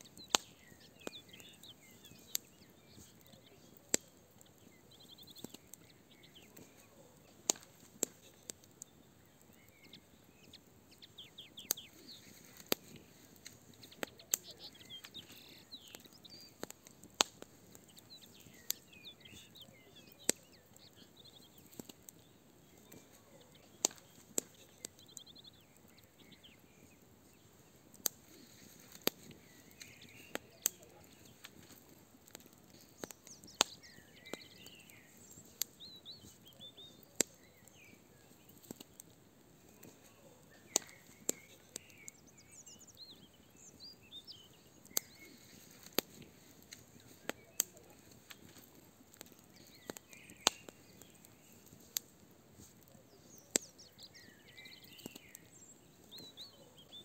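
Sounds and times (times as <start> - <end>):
birds chirping: 0.0 - 57.0
fire crackling and popping: 0.0 - 57.0.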